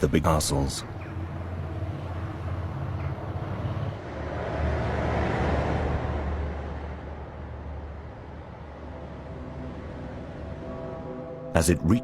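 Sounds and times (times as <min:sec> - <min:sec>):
rushing noise: 0:01.1 - 0:11.7.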